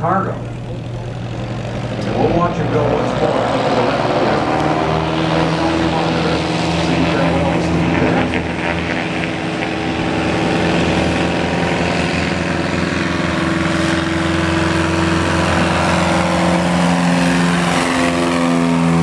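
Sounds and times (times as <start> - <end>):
floatplane engine and propeller drone: 0.0 - 19.0.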